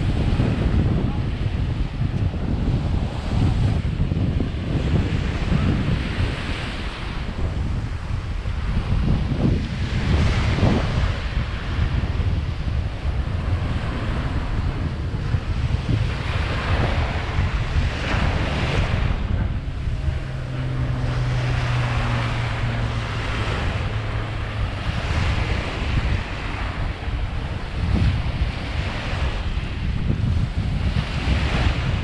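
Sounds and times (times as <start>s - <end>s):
wind buffeting microphone: 0.0s - 32.0s
small waves breaking on shore: 2.8s - 32.0s.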